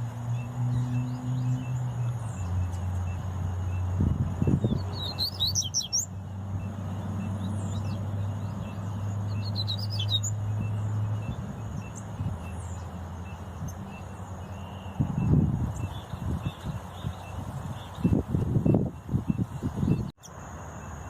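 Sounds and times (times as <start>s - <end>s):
bird singing rapid high chirps: 0.0s - 21.0s.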